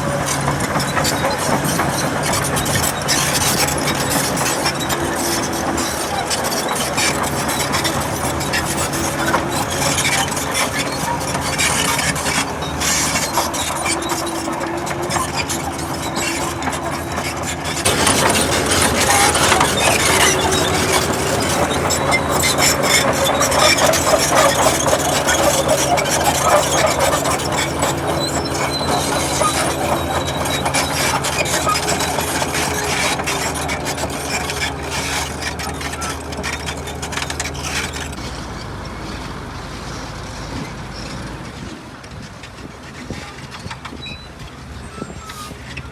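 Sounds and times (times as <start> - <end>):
heavy machinery diesel engine running: 0.0 - 45.9.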